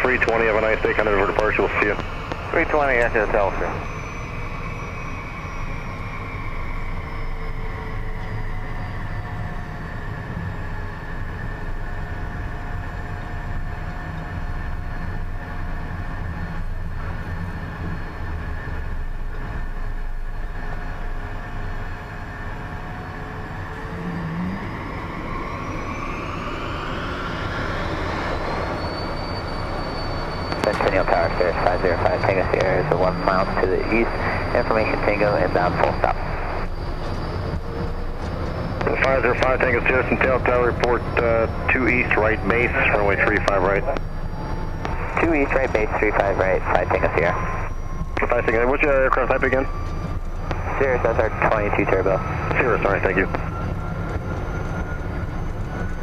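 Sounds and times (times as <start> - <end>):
jet engine whine: 0.0 - 56.0
low airframe rumble: 0.0 - 56.0.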